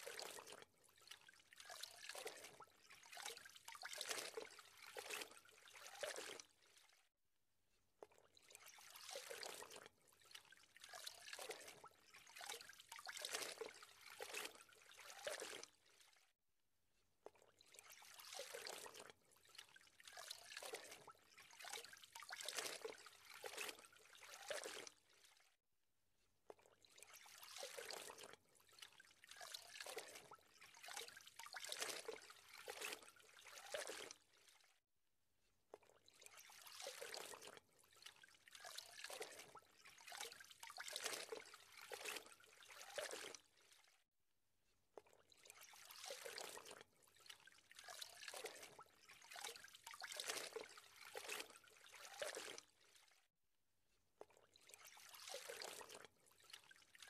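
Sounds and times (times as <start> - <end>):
river water trickling and lapping: 0.0 - 7.2, 7.8 - 16.4, 17.1 - 25.6, 26.4 - 34.9, 35.6 - 44.1, 44.7 - 53.4, 54.0 - 57.0.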